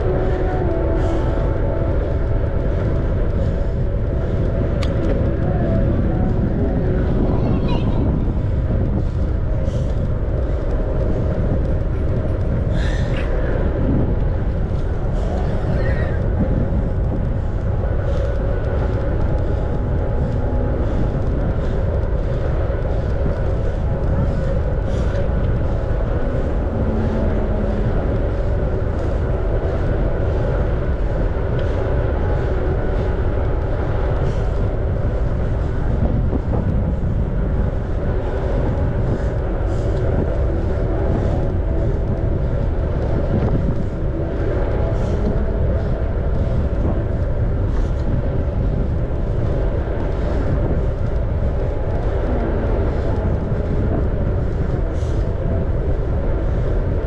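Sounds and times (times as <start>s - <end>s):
bicycle rolling along a path: 0.0s - 57.0s
faint steady hum: 0.0s - 57.0s
wind rumble on microphone: 0.0s - 57.0s.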